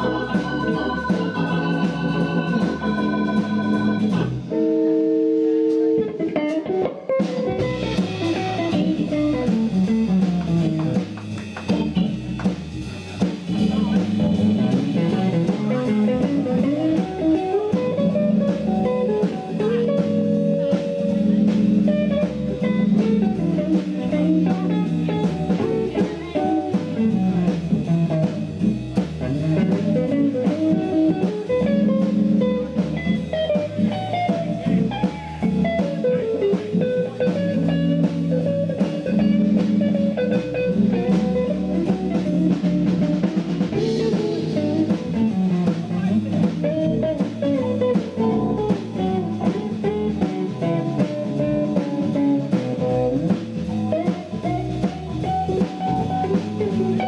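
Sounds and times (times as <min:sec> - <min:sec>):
drum kit steady beat: 0:00.0 - 0:57.0
guitar melody: 0:00.0 - 0:57.0
jazz band playing swing: 0:00.0 - 0:57.0.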